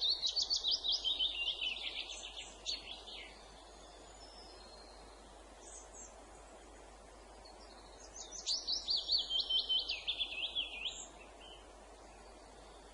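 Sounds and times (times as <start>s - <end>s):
background hiss: 0.0s - 12.9s
songbird singing: 0.0s - 12.9s.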